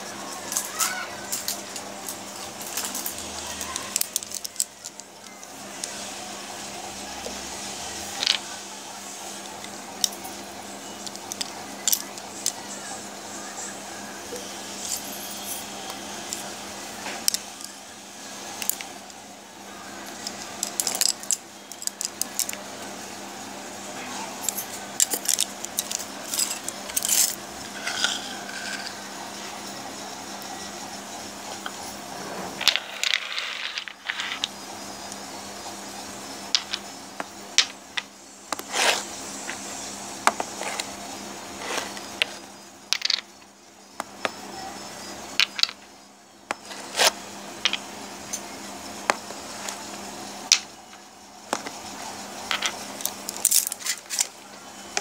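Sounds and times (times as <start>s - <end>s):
steady background hum: 0.0s - 55.0s.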